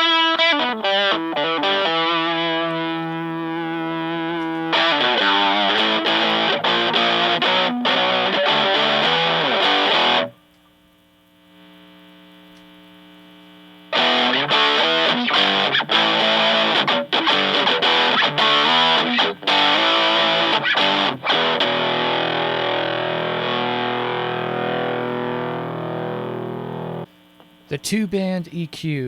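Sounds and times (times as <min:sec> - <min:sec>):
distorted electric guitar riffs: 0:00.0 - 0:10.4, 0:13.9 - 0:29.0.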